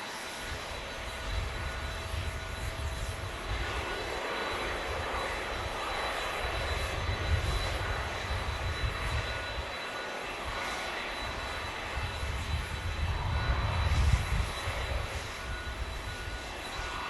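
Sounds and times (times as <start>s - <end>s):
jet engines passing: 0.0s - 17.0s.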